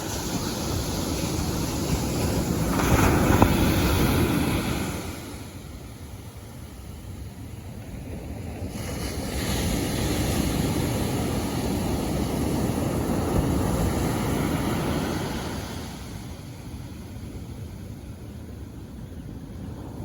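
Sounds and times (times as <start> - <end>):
sea waves surging onto shore: 0.0 - 20.0.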